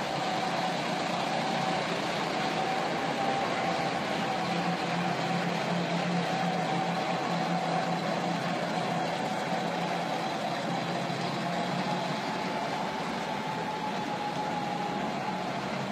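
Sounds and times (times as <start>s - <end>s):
diesel truck engine at low revs: 0.0s - 15.9s.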